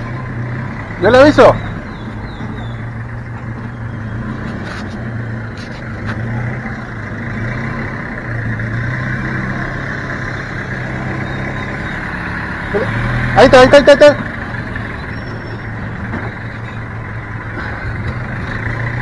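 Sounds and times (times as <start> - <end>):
van engine running at low revs: 0.0 - 19.0.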